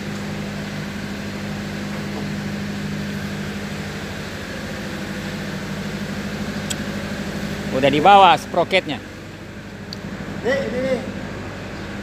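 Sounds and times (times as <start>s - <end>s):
heavy engine idling: 0.0s - 12.0s.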